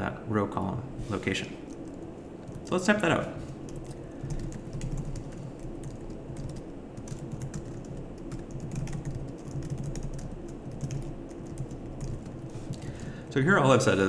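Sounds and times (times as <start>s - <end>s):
computer keyboard typing: 1.7s - 13.2s.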